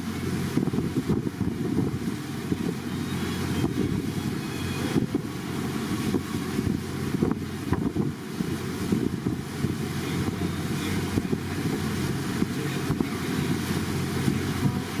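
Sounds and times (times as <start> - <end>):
churning boat wake: 0.0 - 15.0
motorboat engine hum: 0.0 - 15.0
wind buffeting microphone: 0.0 - 15.0.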